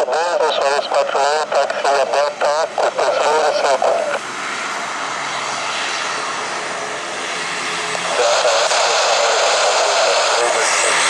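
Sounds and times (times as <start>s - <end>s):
turboprop engines and propellers running: 0.0s - 11.0s.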